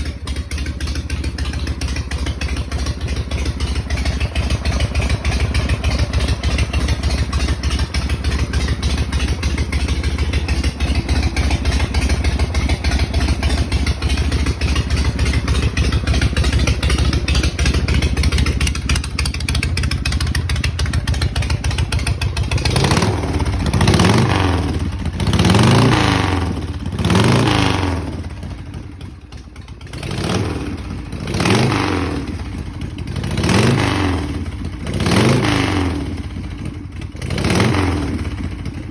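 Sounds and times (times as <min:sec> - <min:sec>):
motorcycle engine idling: 0:00.0 - 0:38.9
engine revving: 0:04.4 - 0:28.8, 0:29.8 - 0:38.6.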